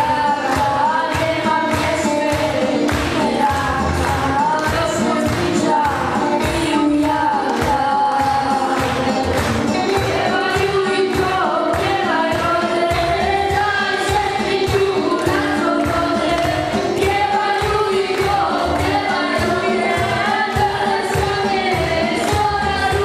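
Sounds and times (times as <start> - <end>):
boys singing: 0.0 - 23.0.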